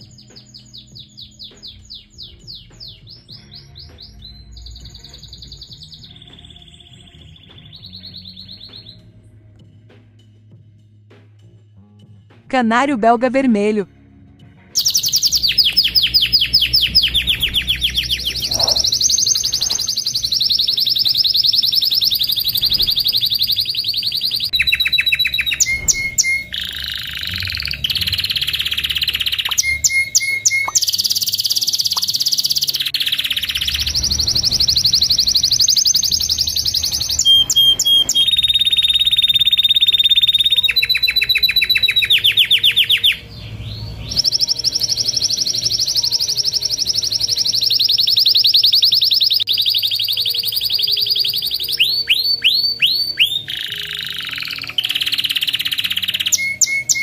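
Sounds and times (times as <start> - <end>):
canary singing trills: 0.0 - 9.2, 14.8 - 57.0.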